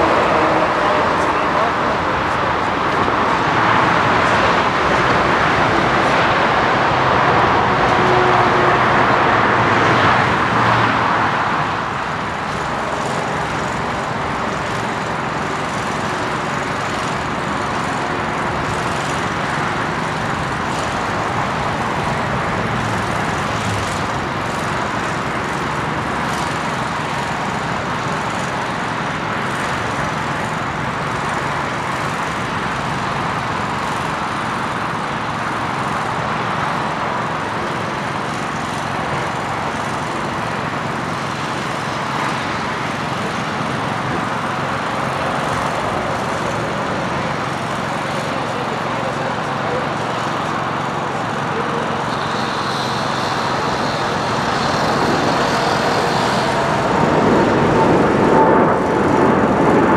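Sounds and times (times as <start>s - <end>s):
distant jet rumble: 0.0s - 59.9s
jet engine climbing: 0.0s - 59.9s.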